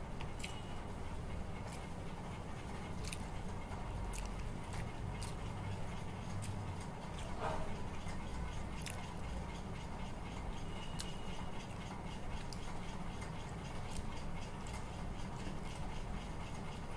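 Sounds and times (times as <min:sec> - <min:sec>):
steady low hum: 0:00.0 - 0:16.9
person chewing noodles: 0:00.1 - 0:16.1.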